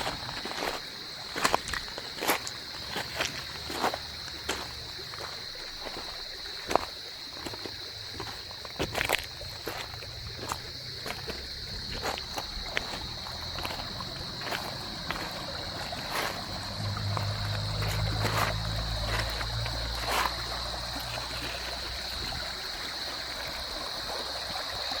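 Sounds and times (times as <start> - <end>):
stream trickling between rocks: 0.0 - 25.0.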